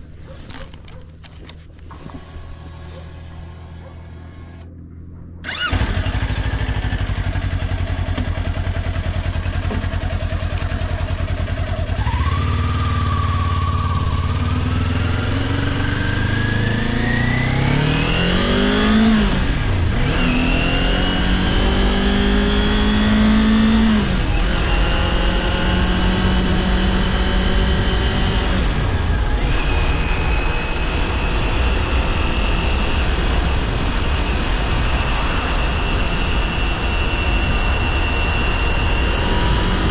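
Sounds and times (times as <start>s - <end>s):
motorcycle engine revving: 1.9s - 39.9s.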